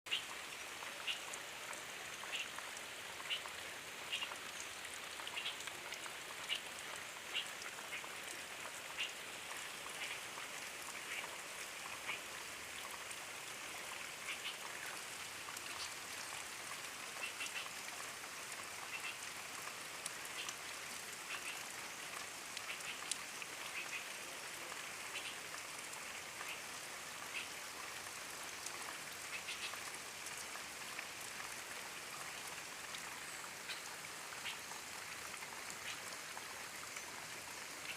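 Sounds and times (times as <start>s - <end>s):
gentle rain hiss: 0.1s - 37.9s.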